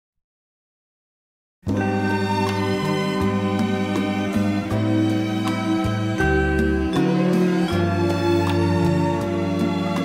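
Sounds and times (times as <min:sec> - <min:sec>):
instrumental love song: 0:01.7 - 0:10.0.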